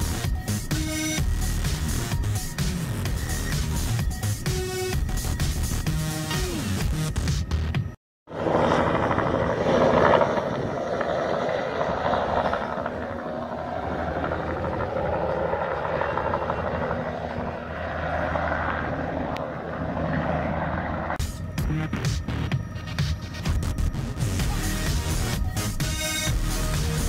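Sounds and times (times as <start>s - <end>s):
helicopter flying overhead: 0.0s - 6.9s, 8.3s - 27.0s.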